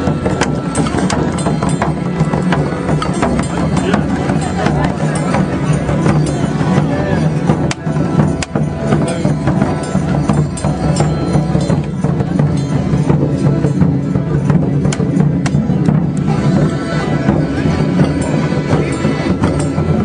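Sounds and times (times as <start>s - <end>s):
drums beating: 0.0s - 20.0s
traditional band music: 0.0s - 20.0s.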